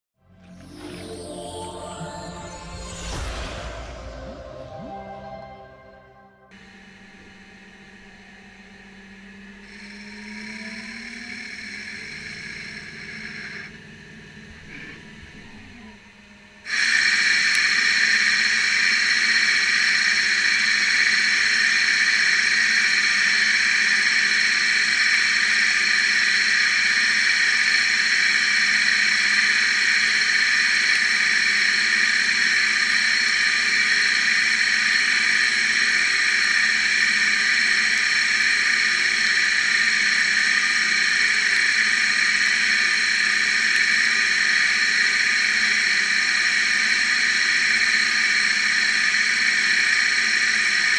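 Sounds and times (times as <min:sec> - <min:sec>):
lathe hissing and whining: 0:06.5 - 0:50.9.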